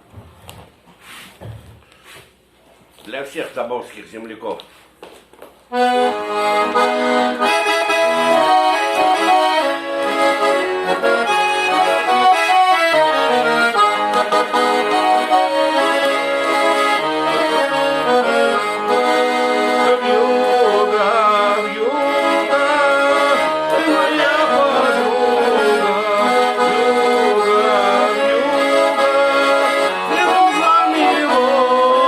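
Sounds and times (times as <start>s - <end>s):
accordion playing chords: 5.7s - 32.0s.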